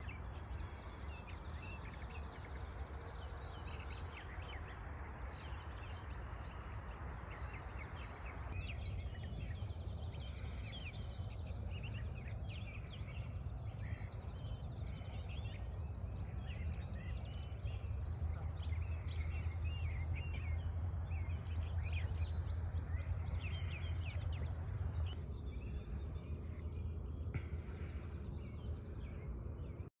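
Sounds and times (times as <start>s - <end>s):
birds chirping and twittering: 0.0s - 29.9s
low wind rumble: 0.0s - 29.9s.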